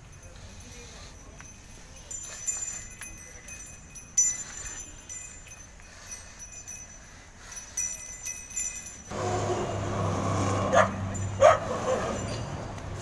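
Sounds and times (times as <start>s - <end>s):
bell jingling and clinking: 0.0s - 9.2s, 10.7s - 13.0s.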